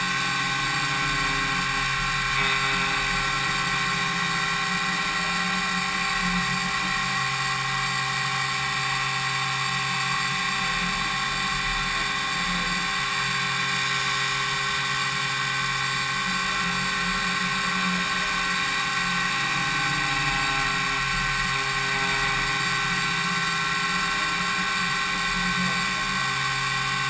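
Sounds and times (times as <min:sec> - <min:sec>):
milling machine whine: 0:00.0 - 0:27.0.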